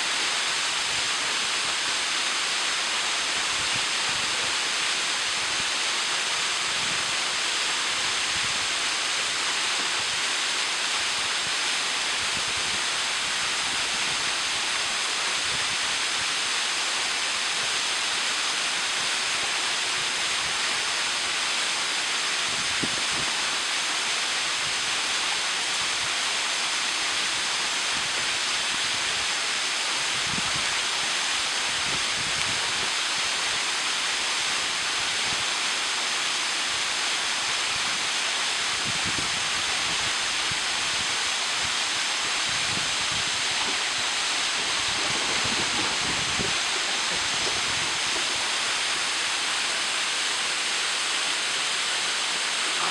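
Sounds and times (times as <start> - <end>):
waterfall pouring into pool: 0.0 - 52.9.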